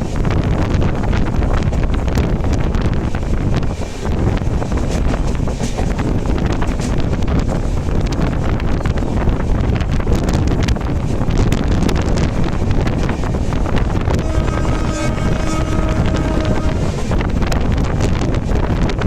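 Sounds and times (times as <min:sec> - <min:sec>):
train rumbling: 0:00.0 - 0:19.0
wind buffeting microphone: 0:00.0 - 0:19.0.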